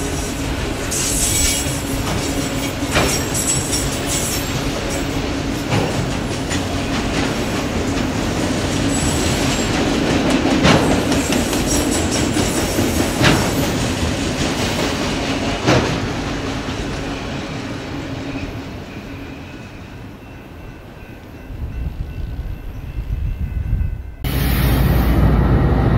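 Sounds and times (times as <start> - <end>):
freight train wheels rumbling on rail: 0.0 - 25.9.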